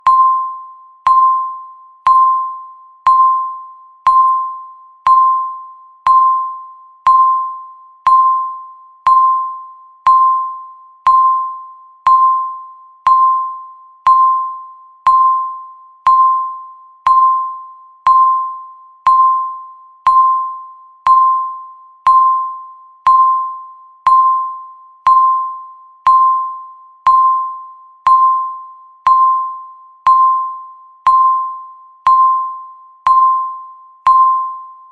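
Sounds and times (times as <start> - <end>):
timer beeping: 0.0 - 34.9.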